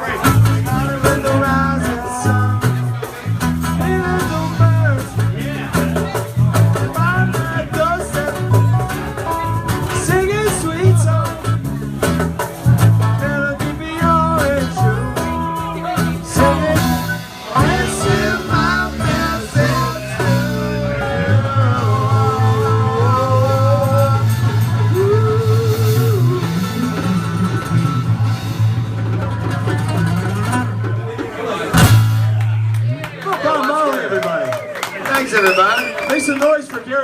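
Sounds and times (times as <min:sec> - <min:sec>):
live band playing reggae: 0:00.0 - 0:37.0.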